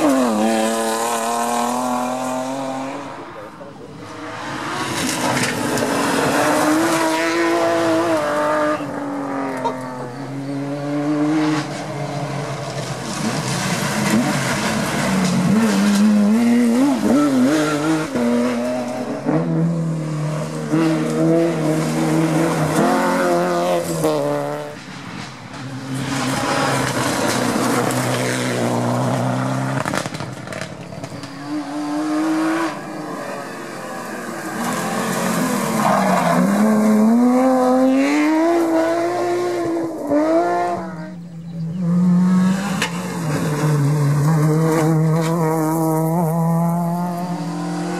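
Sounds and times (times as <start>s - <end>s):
rally car engines revving past: 0.0s - 47.9s.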